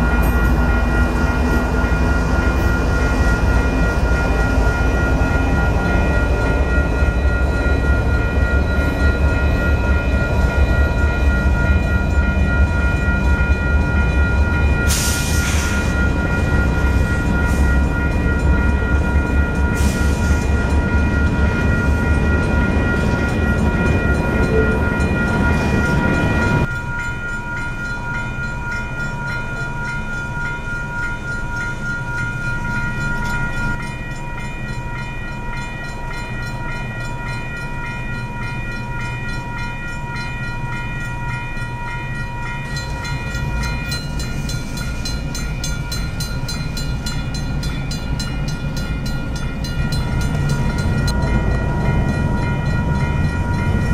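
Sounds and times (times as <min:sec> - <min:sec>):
crossing bell ringing: 0:00.0 - 0:53.9
freight train wheels rumbling: 0:00.0 - 0:53.9.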